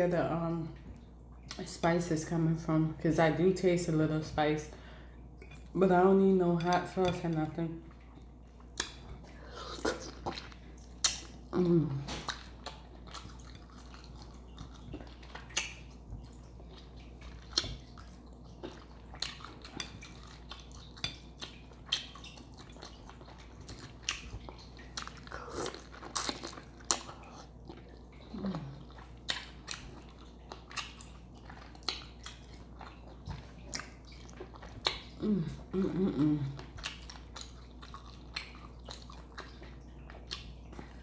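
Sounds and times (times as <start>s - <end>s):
wet chewing and mouth smacking: 6.7s - 41.0s.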